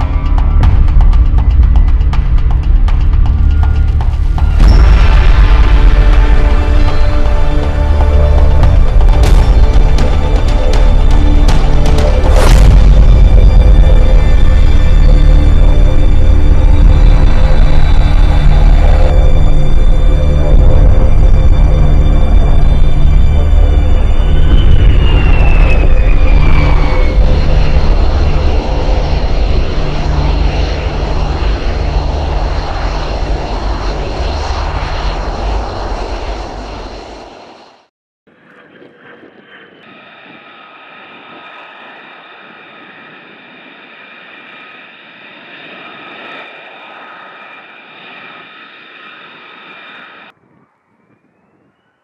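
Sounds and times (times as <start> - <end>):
jet engines whining: 0.0 - 50.6
jet aircraft rumble: 0.0 - 52.0.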